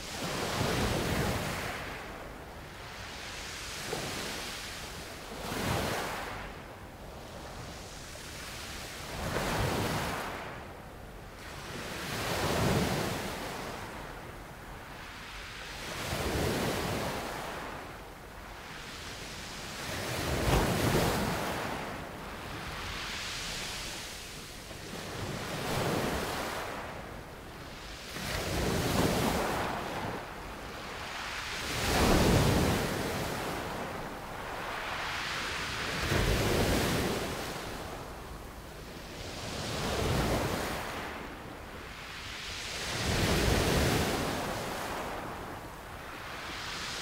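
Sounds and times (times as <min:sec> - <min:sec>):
sea waves breaking on shore: 0:00.0 - 0:06.6, 0:07.3 - 0:10.8, 0:11.4 - 0:47.0.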